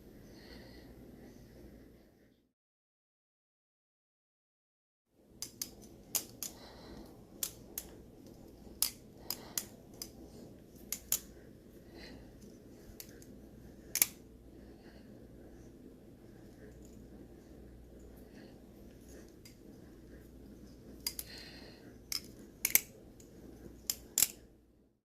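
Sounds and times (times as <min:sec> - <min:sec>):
low room noise: 0:00.0 - 0:02.5, 0:05.1 - 0:25.0.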